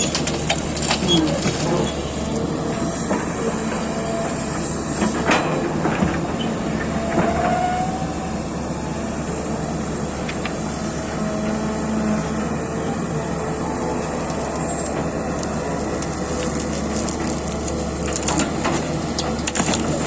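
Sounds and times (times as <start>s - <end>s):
heavy excavator running: 0.0s - 20.0s.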